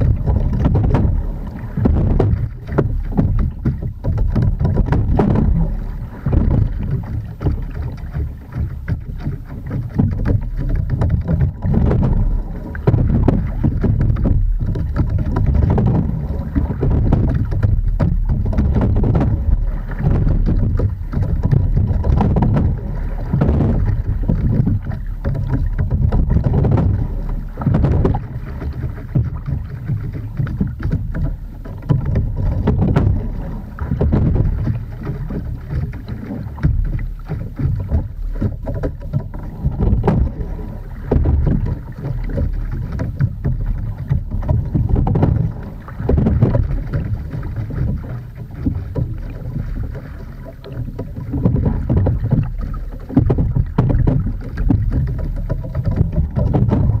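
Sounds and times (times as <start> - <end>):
oar clicks: 0.0 - 57.0
water rushing around rowing boat: 0.0 - 57.0
wind rumble on microphone: 0.0 - 57.0.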